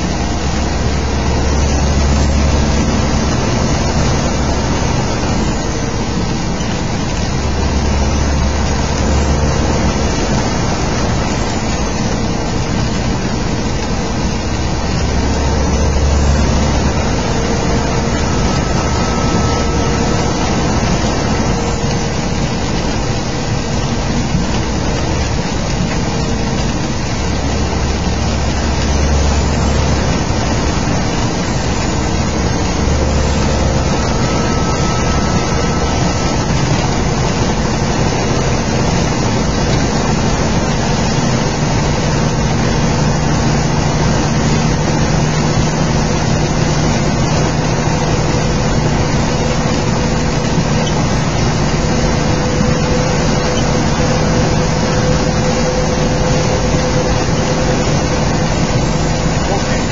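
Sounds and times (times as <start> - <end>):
deep rumble: 0.0 - 59.9
diesel engine drone: 0.0 - 59.9
rain hissing: 0.0 - 59.9
wet tyre spray: 0.0 - 59.9.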